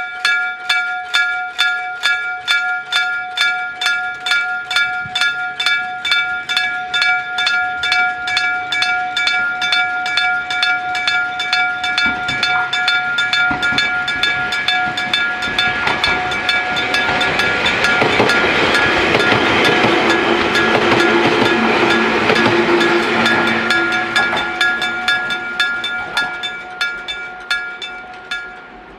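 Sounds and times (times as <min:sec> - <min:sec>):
railway crossing bell ringing: 0:00.0 - 0:28.9
train passing: 0:02.8 - 0:28.9.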